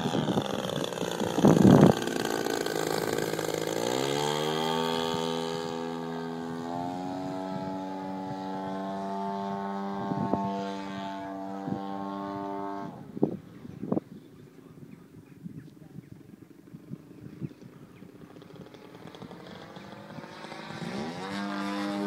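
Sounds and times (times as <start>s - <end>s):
model plane engine droning: 0.0s - 13.8s, 16.4s - 22.0s
wind on microphone: 0.0s - 22.0s.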